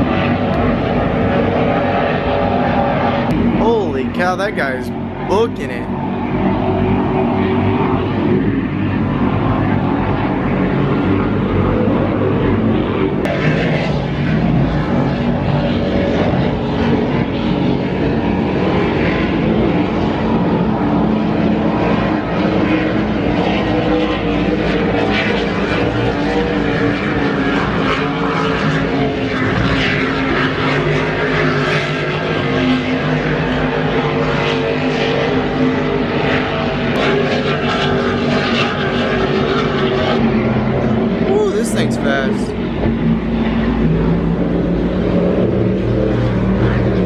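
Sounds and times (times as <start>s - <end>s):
powerboat engines running hard: 5.9s - 47.0s.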